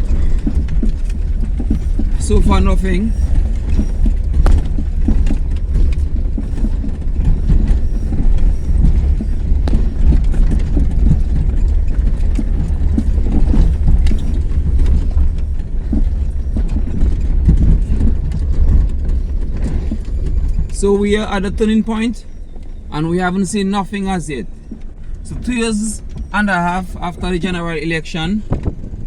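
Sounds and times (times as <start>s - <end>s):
car road noise rumble: 0.0s - 29.0s
knocks and rattles in car: 0.0s - 29.0s.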